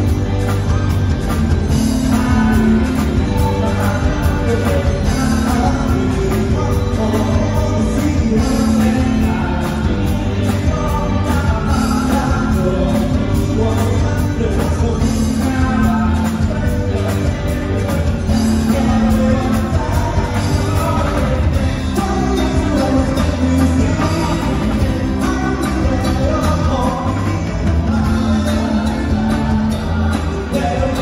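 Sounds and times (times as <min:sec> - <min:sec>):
electric guitar: 0:00.0 - 0:31.0
live band over speakers: 0:00.0 - 0:31.0
voices singing together: 0:00.0 - 0:31.0.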